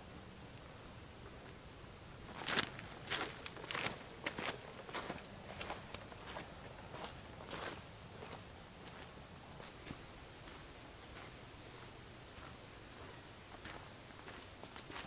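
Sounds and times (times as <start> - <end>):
insects droning: 0.0 - 15.0
footsteps: 2.2 - 15.0.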